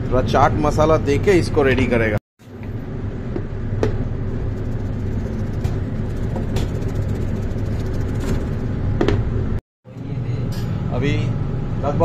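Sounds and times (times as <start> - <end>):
low kitchen hum and rumble: 0.0 - 12.0.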